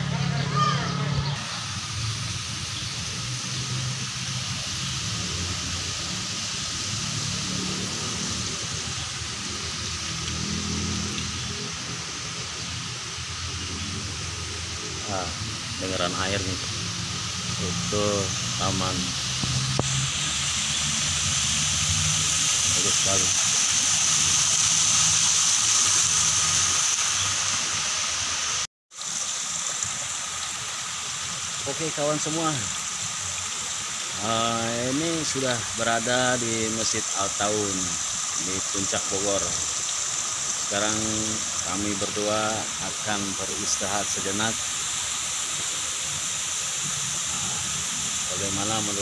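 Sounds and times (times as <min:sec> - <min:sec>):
water cascading down stream: 0:00.0 - 0:49.0.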